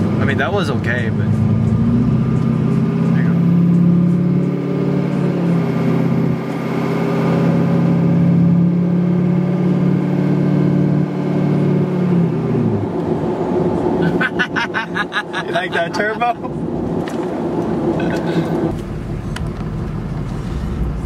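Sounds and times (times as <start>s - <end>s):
diesel engine accelerating: 0.0s - 21.0s.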